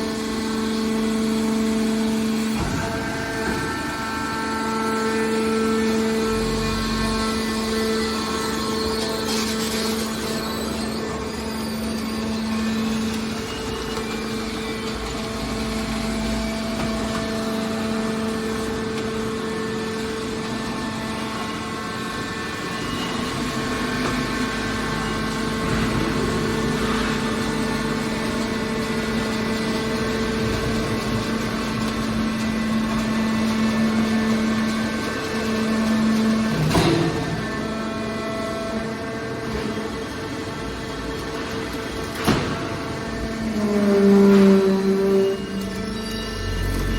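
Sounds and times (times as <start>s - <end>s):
hydraulic baler humming: 0.0s - 46.9s.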